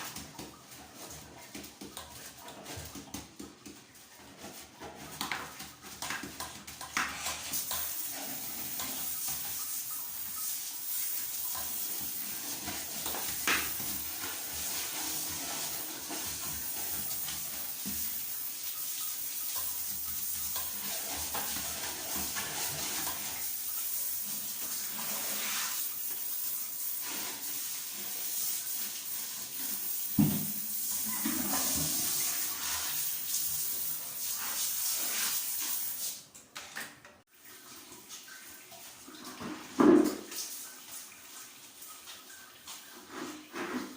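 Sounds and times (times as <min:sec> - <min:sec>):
water running: 0:00.0 - 0:43.9.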